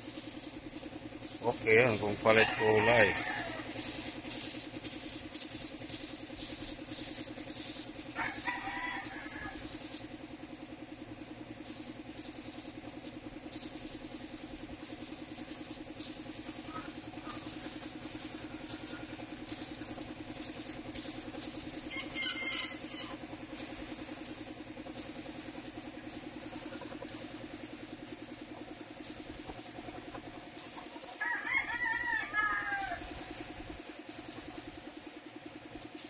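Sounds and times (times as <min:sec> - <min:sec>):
paint spray gun hissing: 0:00.0 - 0:10.3, 0:11.5 - 0:36.0
steady low hum: 0:03.2 - 0:36.0.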